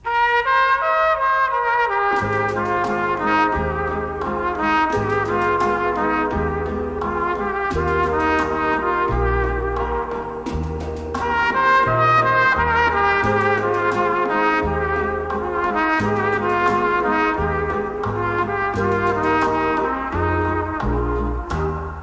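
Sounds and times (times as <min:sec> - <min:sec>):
horn-like melody: 0:00.0 - 0:22.0
low bass line: 0:02.2 - 0:22.0.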